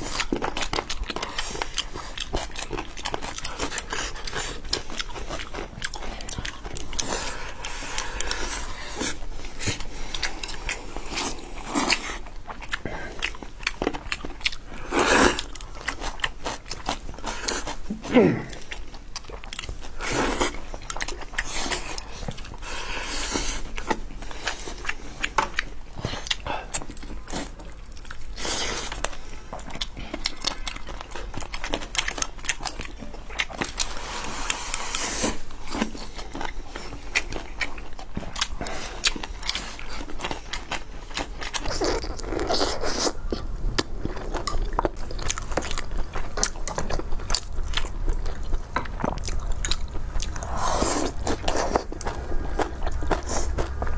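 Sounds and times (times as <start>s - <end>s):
person chewing and slurping: 0.0s - 53.9s.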